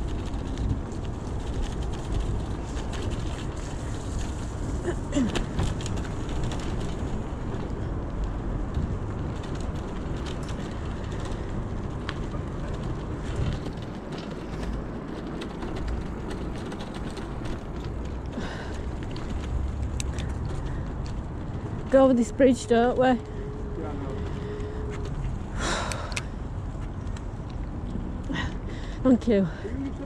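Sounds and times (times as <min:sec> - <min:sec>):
bicycle tyre rumble: 0:00.0 - 0:30.0
bike and basket rattling: 0:00.0 - 0:30.0.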